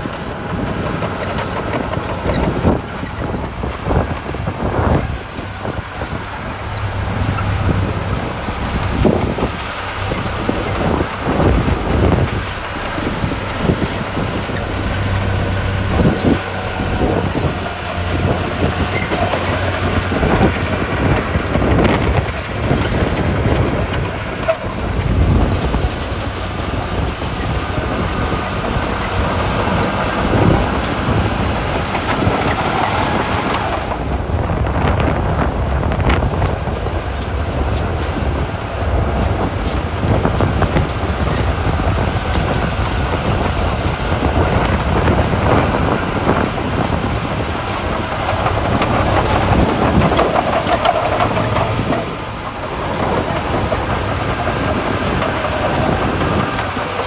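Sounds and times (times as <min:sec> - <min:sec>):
bulldozer diesel engine under load: 0:00.0 - 0:57.0
steel tracks clanking: 0:00.0 - 0:57.0.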